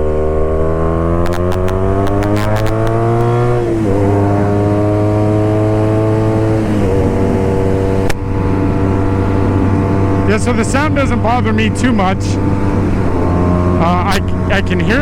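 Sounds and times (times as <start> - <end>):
motorcycle accelerating through gears: 0.0 - 15.0.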